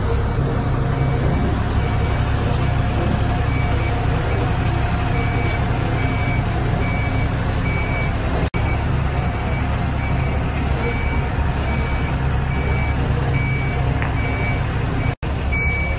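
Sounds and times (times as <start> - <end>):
diesel engine low drone: 0.0 - 15.9
backup alarm beeping: 0.9 - 15.9.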